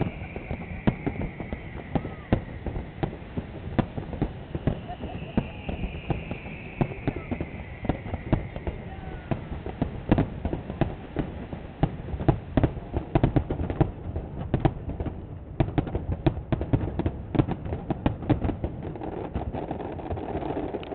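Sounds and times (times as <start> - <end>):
firework bangs and crackles: 0.0 - 20.9.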